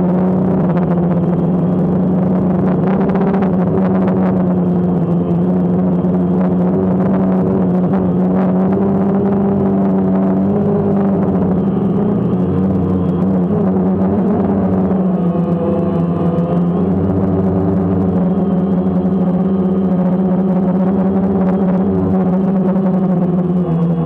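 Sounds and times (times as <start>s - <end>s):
drone propellers humming: 0.0s - 24.0s.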